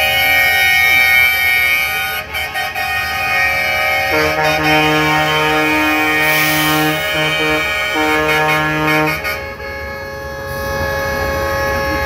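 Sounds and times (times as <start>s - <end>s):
traffic engines running: 0.0s - 12.0s
truck air horn blasts: 0.0s - 12.0s.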